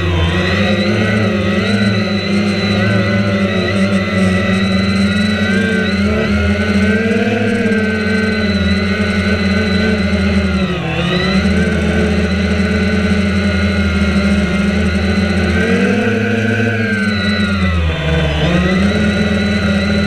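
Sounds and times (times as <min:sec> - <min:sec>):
drone propellers whirring: 0:00.0 - 0:20.0.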